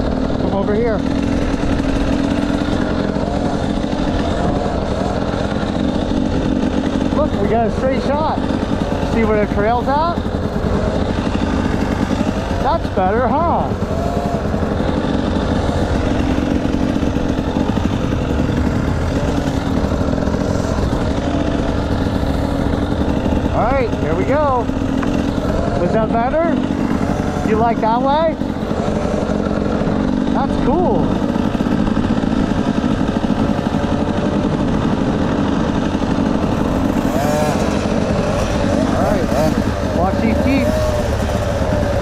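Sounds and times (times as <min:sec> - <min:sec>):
motorbike engine running: 0:00.0 - 0:42.0.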